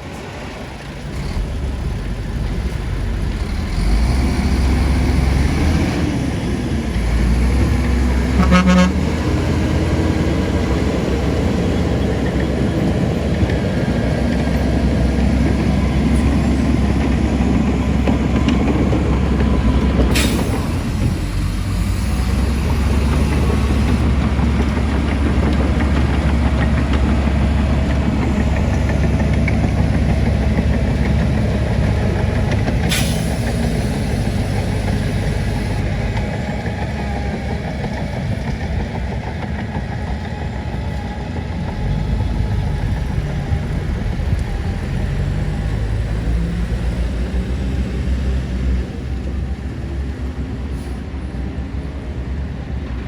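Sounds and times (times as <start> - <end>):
diesel engine rumble: 0.0 - 53.0.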